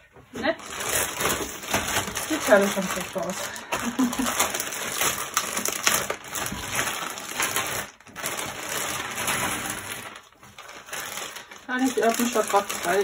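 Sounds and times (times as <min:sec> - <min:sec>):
plastic bag crinkling: 0:00.4 - 0:13.0
puzzle pieces clattering on table: 0:00.6 - 0:13.0.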